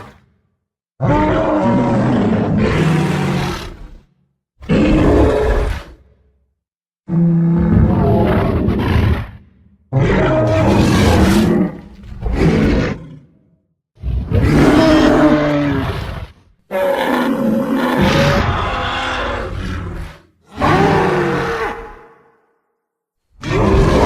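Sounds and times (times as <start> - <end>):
deep creature roaring calls: 1.0 - 6.1, 7.1 - 22.4, 23.4 - 24.0.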